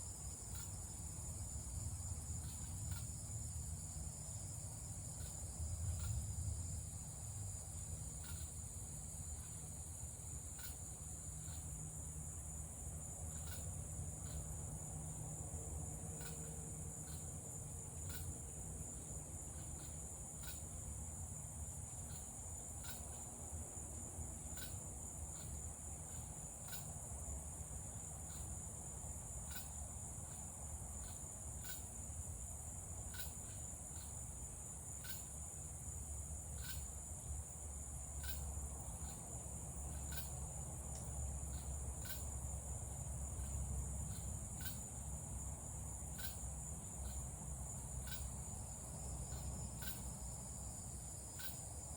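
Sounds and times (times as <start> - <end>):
insects trilling: 0.0 - 51.9
short sharp insect chirps: 0.0 - 51.9.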